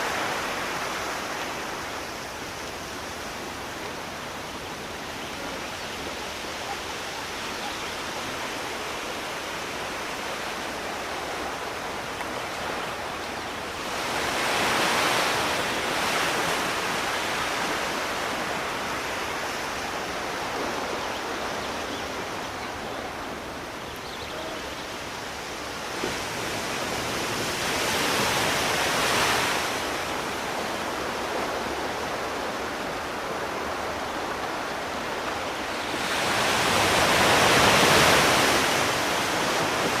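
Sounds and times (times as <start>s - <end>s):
sea waves washing onto shore: 0.0s - 40.0s.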